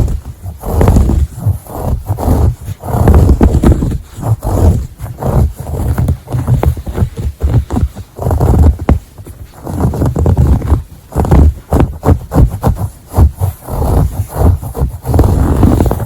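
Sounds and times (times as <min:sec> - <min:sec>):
scratching on textile: 0:00.0 - 0:16.0.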